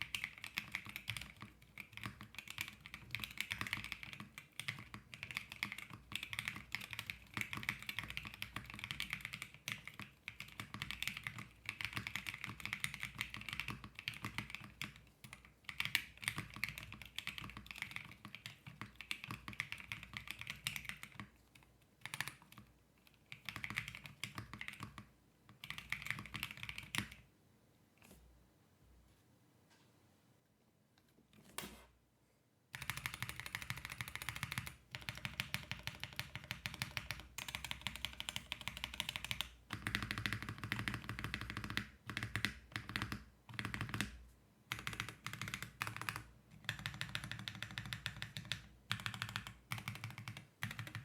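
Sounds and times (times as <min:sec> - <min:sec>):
mechanical keyboard typing: 0:00.0 - 0:27.2, 0:32.7 - 0:51.0.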